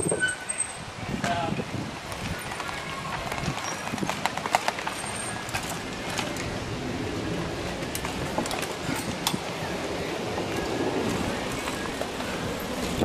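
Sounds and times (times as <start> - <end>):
mountain bikes riding past: 1.9 - 13.0.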